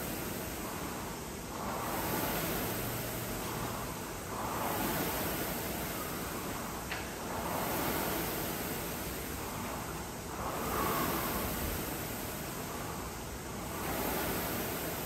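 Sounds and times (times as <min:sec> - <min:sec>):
rowing machine flywheel whooshing: 0:00.0 - 0:15.0.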